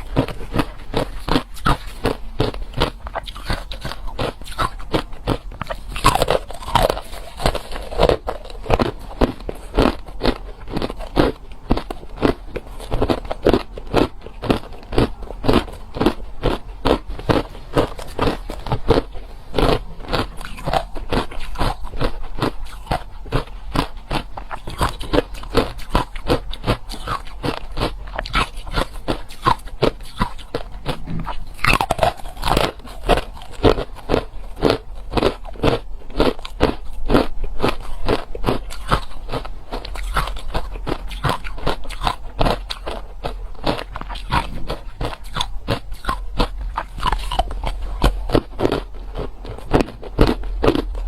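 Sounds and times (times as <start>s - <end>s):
ice crunching when chewed: 0.0s - 51.0s.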